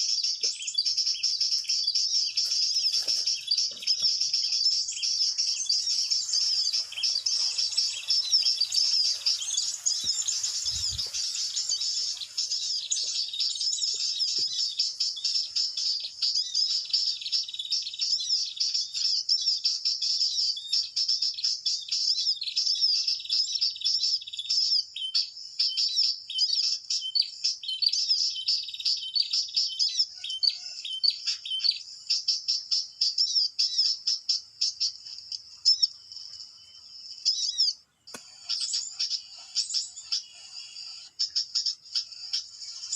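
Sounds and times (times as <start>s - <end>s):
bird chirping and twittering: 0.0s - 42.9s.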